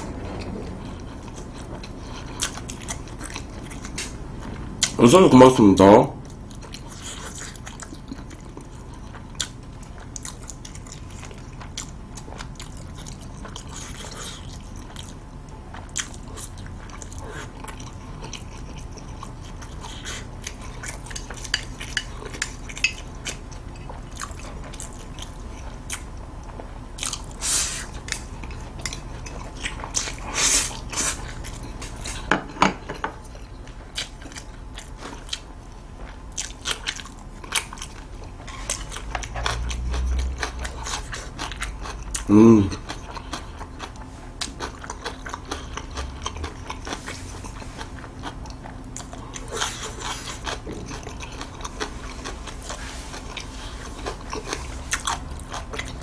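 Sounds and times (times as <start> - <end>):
wet chewing of noodles: 0.0 - 5.0, 6.2 - 32.4, 33.0 - 56.0.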